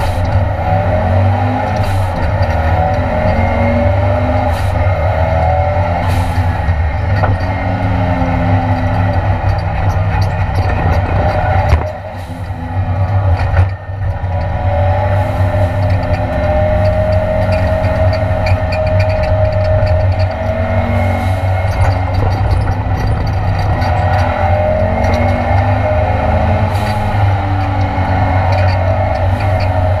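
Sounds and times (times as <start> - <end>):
gear change clicks: 0.0 - 30.0
race car engine revving: 0.0 - 30.0.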